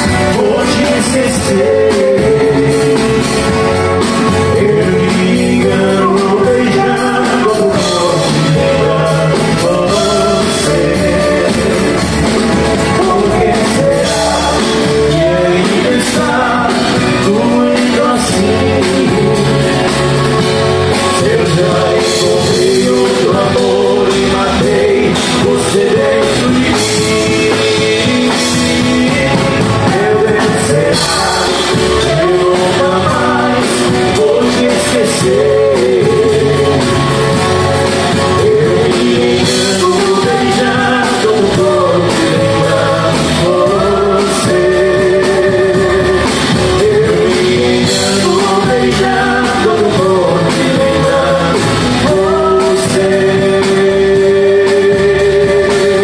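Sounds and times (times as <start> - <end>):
man singing: 0.0 - 56.0
strummed acoustic guitars: 0.0 - 56.0.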